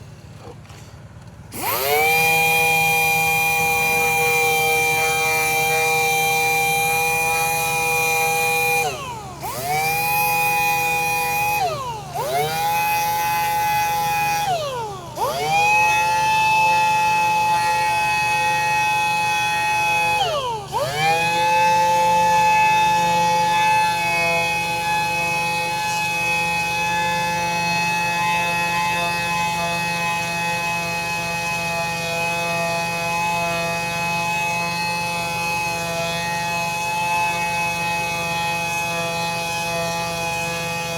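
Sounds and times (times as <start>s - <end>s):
power sander whining: 0.1s - 40.9s.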